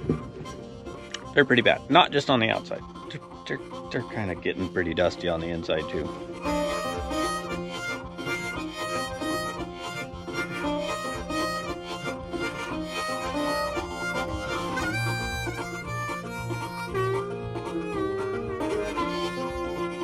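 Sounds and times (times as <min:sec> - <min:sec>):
harmonica melody: 0:00.0 - 0:20.0.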